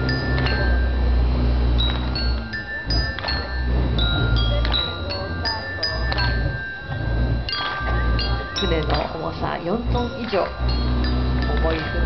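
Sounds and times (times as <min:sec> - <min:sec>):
music box melody: 0:00.0 - 0:12.0
steady low rumble: 0:00.0 - 0:12.0.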